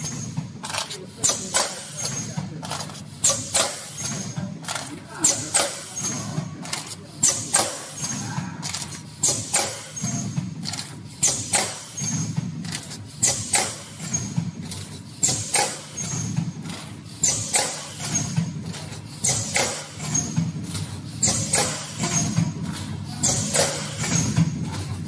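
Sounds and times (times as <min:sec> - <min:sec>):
machine clacking: 0:00.0 - 0:25.0.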